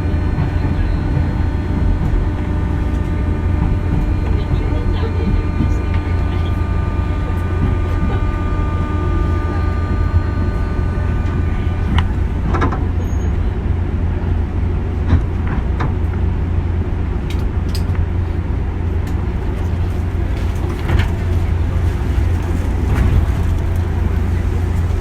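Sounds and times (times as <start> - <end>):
electric train rumbling: 0.0 - 25.0
train motor whine: 0.0 - 25.0.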